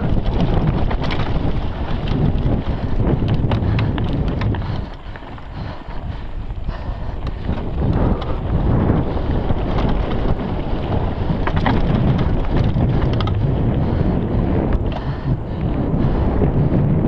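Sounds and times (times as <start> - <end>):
bike clicking and rattling: 0.0 - 17.0
tyre noise on loose dirt: 0.0 - 17.0
wind buffeting microphone: 0.0 - 17.0.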